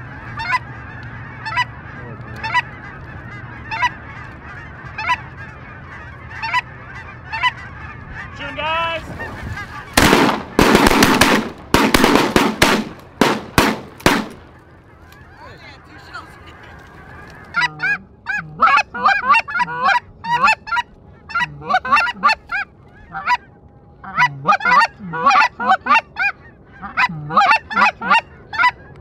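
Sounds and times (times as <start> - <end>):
geese honking: 0.0 - 29.0.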